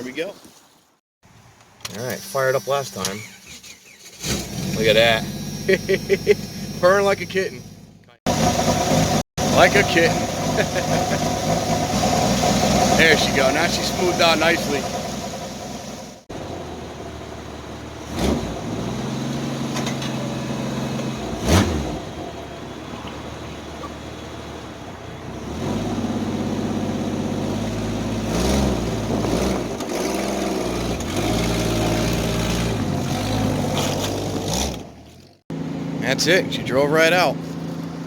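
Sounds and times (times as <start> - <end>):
car engine running: 3.1 - 38.0.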